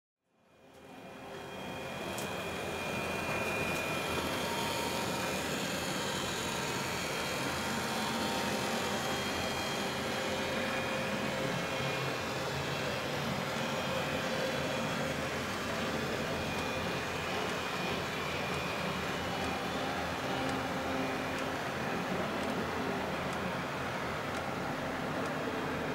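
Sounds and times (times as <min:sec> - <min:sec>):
model train wheels on rails: 0:00.7 - 0:25.9
model train motor whirring: 0:01.4 - 0:25.9.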